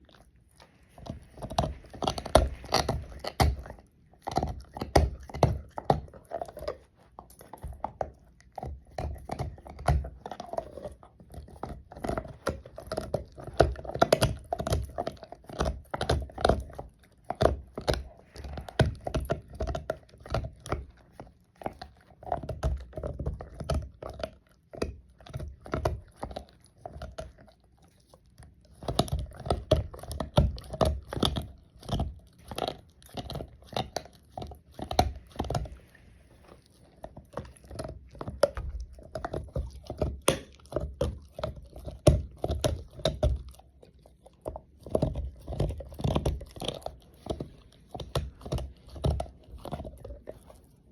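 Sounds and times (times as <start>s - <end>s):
dog gnawing a chew toy: 0.0s - 50.9s.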